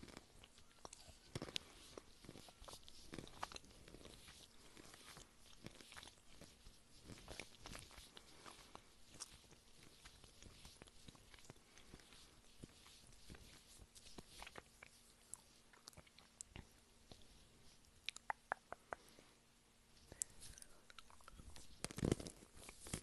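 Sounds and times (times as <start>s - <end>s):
chewing crunchy food: 0.0s - 17.2s, 20.1s - 23.0s.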